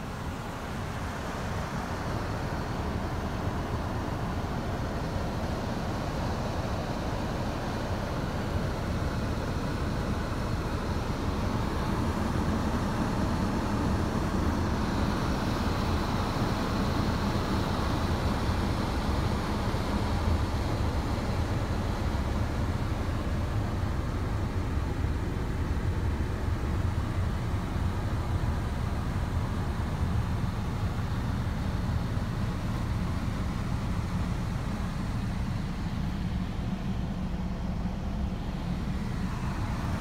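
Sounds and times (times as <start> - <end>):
car climate fan blowing: 0.0 - 40.0.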